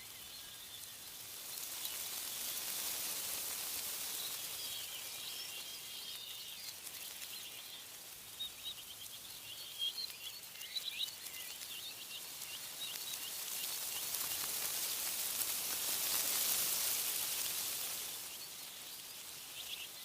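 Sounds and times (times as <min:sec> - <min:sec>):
songbirds chirping: 0:00.0 - 0:20.0
wind through tree leaves: 0:00.0 - 0:20.0.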